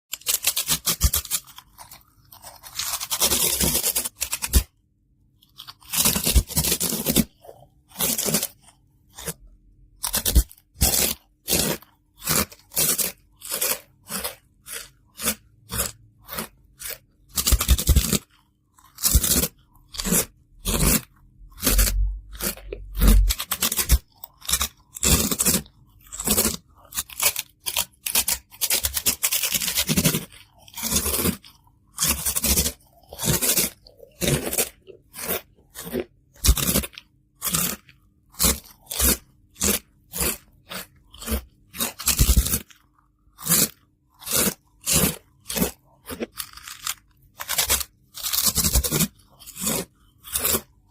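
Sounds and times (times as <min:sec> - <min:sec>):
crunchy snack being chewed: 0:05.5 - 0:50.9.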